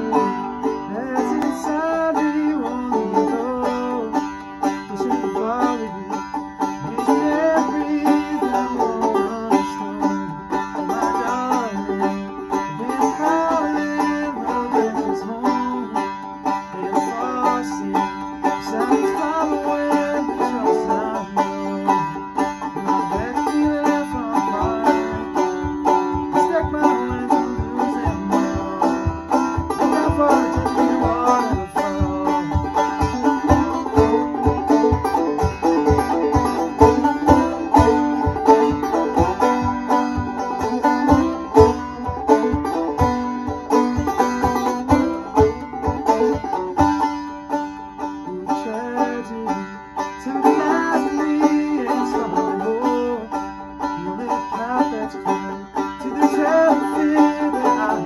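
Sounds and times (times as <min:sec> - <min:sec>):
steady low beat: 0:00.0 - 0:54.9
banjo picking: 0:00.0 - 0:58.0.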